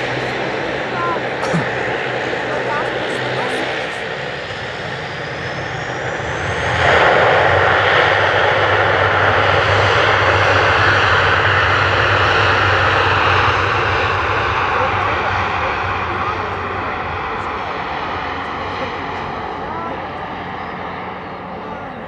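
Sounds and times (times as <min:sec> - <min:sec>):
aircraft passing low overhead: 0:00.0 - 0:22.0.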